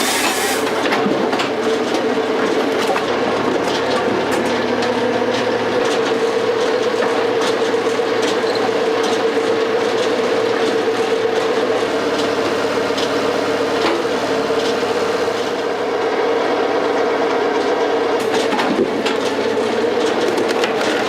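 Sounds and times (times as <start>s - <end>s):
log splitter whine and machine noise: 0.0s - 21.0s.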